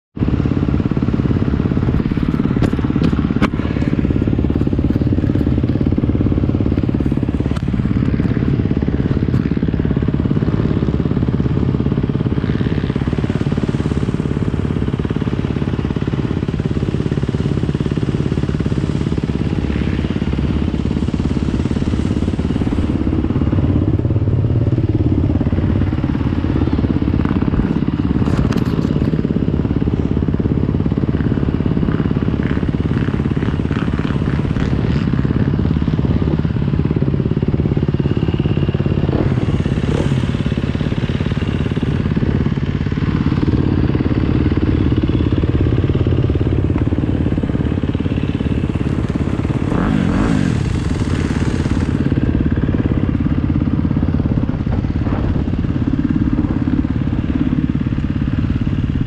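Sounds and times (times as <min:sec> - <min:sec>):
motorbike engine idling: 0:00.2 - 0:59.0.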